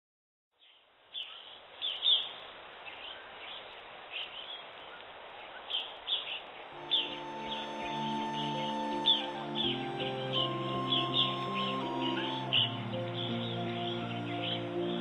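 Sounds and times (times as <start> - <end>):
birds chirping: 0.6 - 15.0
river rushing: 1.8 - 15.0.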